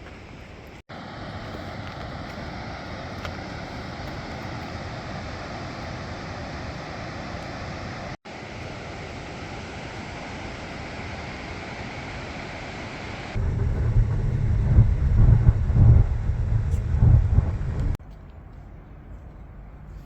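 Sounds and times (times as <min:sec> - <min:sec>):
steady rushing noise: 0:00.9 - 0:18.0.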